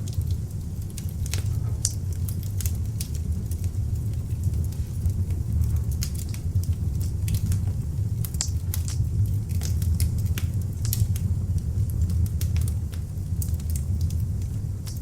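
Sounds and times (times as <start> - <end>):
log fire crackling and popping: 0.0 - 15.0.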